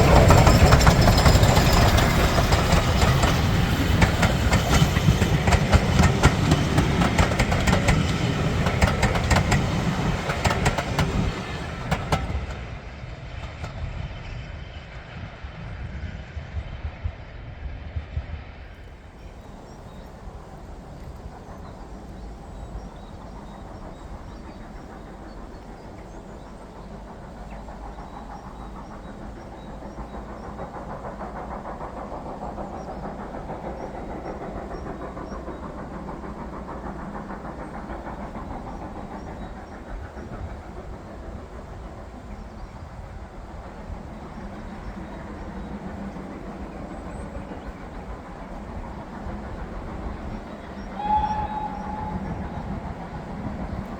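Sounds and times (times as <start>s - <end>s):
steam train rumbling: 0.0s - 53.9s.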